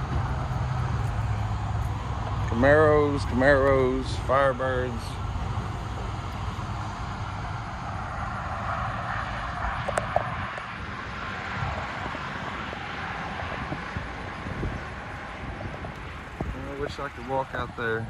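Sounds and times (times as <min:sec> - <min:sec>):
distant engine drone: 0:00.0 - 0:18.0.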